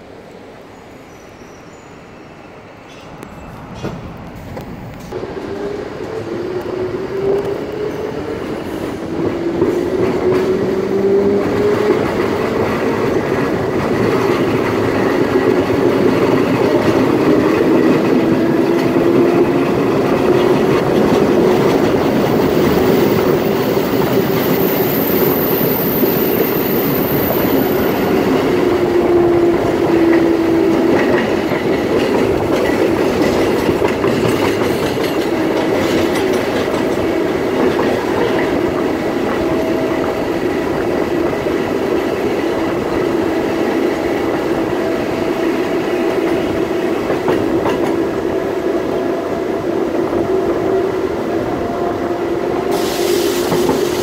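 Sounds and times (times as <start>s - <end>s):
electric train running on track: 0.0s - 54.0s.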